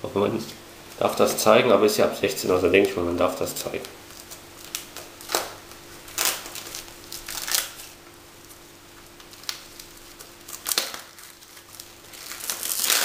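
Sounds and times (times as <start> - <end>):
plastic film crinkling: 2.4 - 13.0.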